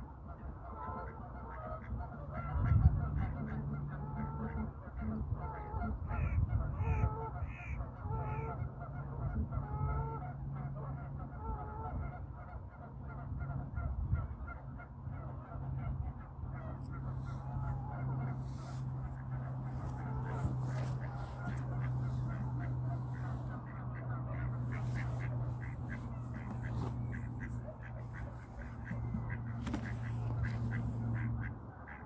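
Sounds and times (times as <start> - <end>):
steady low hum: 0.0 - 32.0
geese honking: 0.2 - 32.0.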